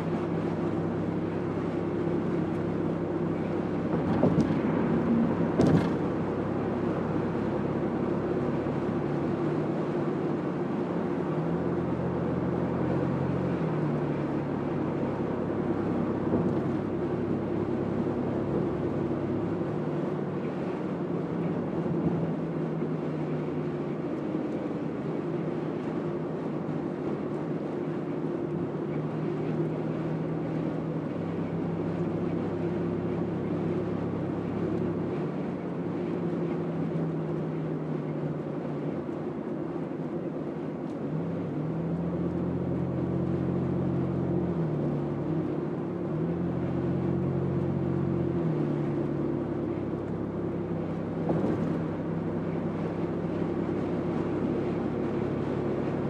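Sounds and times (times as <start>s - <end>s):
car engine and tyre drone: 0.0s - 56.0s.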